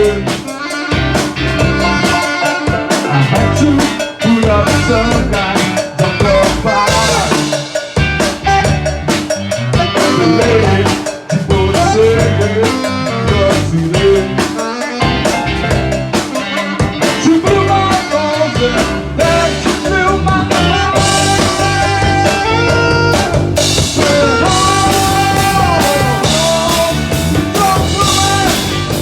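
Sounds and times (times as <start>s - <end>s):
bass: 0.0s - 29.0s
drum kit beat with rimshots: 0.0s - 29.0s
guitar: 0.0s - 29.0s.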